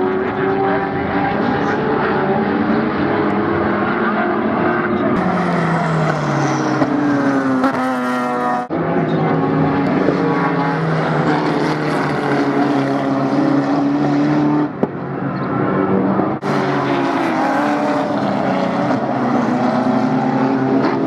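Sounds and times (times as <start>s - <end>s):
race car engines at high revs: 0.0s - 21.0s.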